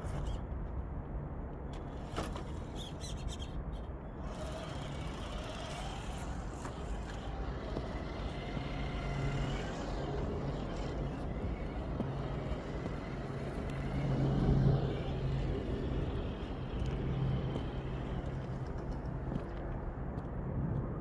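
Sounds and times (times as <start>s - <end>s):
distant highway traffic rumble: 1.7s - 21.0s
faint gliding whine: 1.9s - 20.0s.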